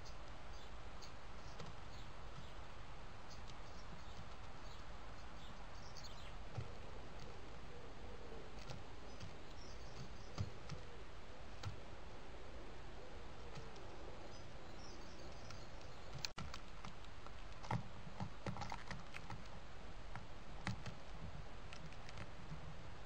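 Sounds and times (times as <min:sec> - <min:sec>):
distant birdsong chirps: 0:00.0 - 0:23.0
microphone hiss: 0:00.0 - 0:23.0.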